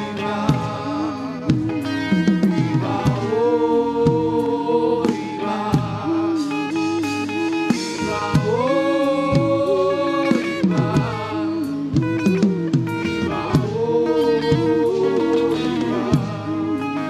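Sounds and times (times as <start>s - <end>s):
instrumental backing: 0.0s - 17.0s
person singing long notes: 0.0s - 17.0s.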